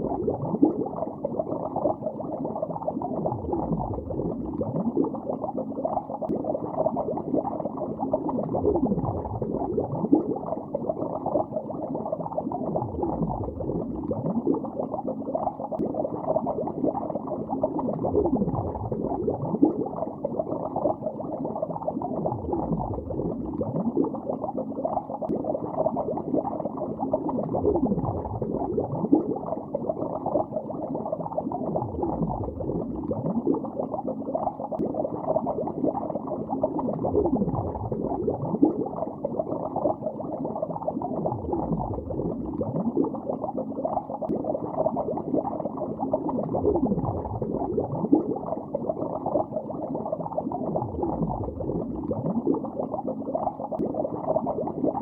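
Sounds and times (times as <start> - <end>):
underwater bubbling: 0.0 - 55.0.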